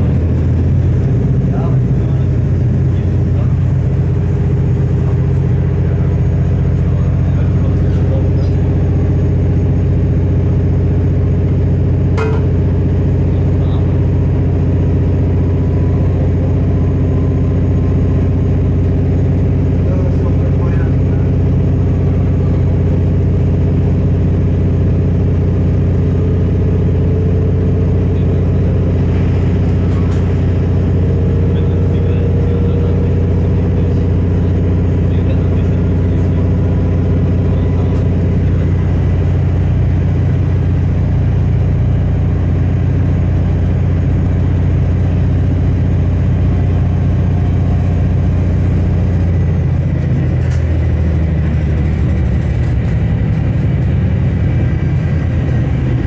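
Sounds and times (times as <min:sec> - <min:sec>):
diesel railcar engine droning: 0:00.0 - 0:56.0.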